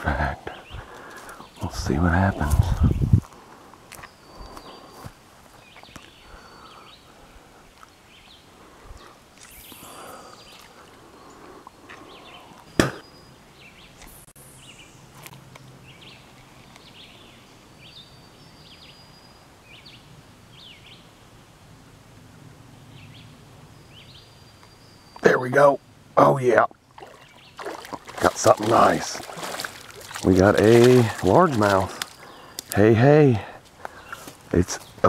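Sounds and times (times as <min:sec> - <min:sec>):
small birds chirping: 0:00.0 - 0:21.2, 0:22.8 - 0:35.0.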